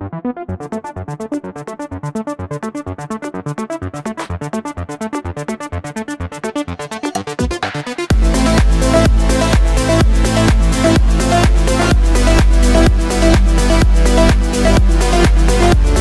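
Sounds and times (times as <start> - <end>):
electronic synthesizer music: 0.0 - 16.0.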